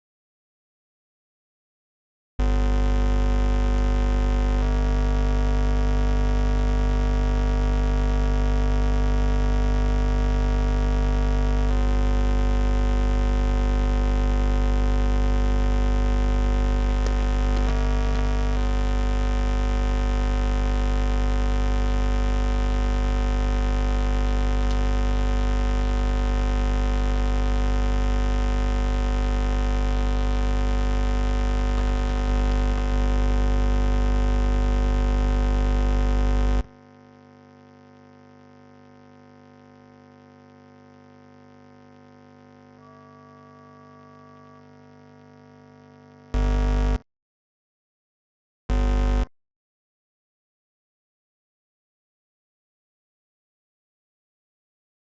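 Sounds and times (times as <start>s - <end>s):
electrical mains buzz: 2.4s - 47.0s, 48.7s - 49.3s.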